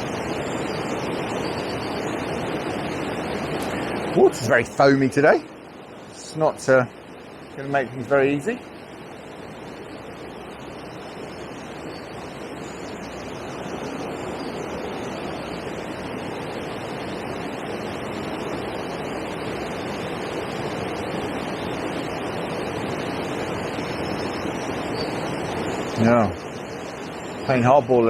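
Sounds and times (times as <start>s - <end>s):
water rushing over a weir: 0.0s - 28.0s.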